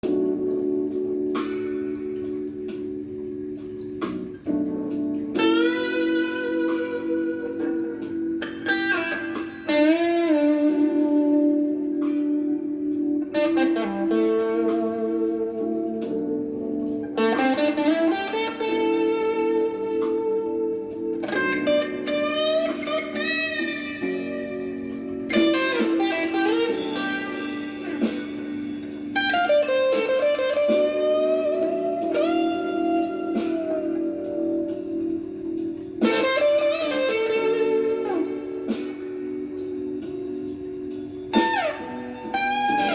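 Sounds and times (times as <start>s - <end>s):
electric guitar playing blues: 0.0s - 42.9s.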